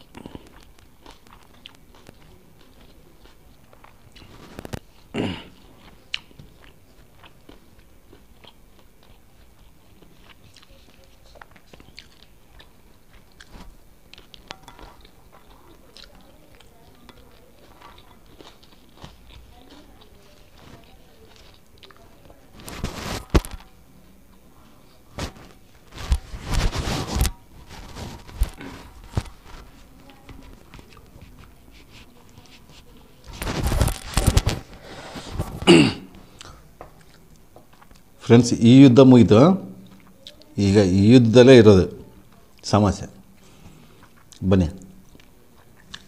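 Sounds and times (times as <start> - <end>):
man chewing food: 0.0 - 38.3, 39.7 - 40.6, 43.3 - 46.0.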